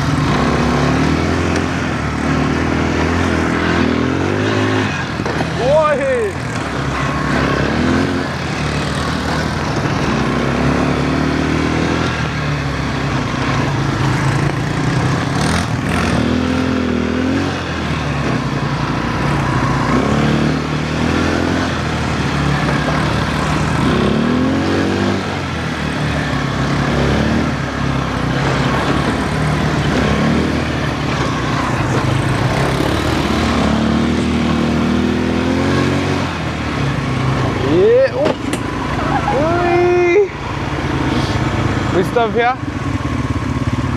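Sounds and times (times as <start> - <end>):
quad bike engine running: 0.0 - 43.9.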